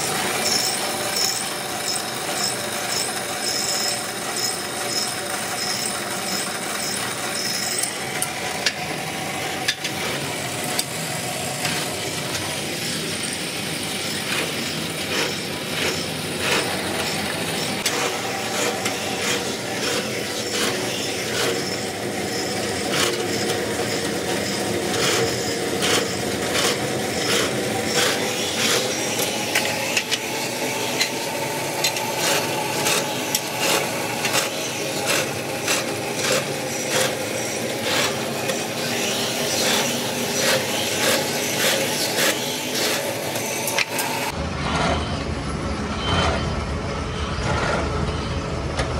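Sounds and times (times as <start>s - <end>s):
drill press boring: 0.0s - 44.4s.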